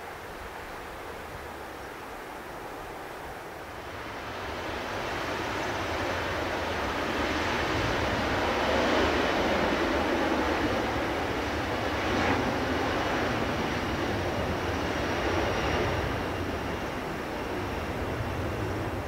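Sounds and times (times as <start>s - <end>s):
distant jet engines roaring: 0.0s - 19.0s.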